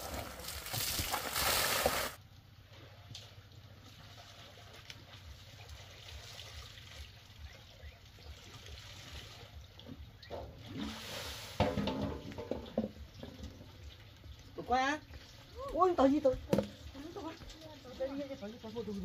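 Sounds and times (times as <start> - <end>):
water sloshing in metal basin: 3.0 - 19.0.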